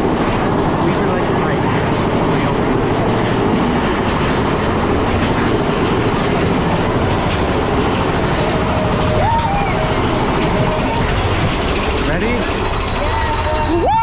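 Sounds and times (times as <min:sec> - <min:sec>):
roller coaster cars clattering: 0:00.0 - 0:14.0.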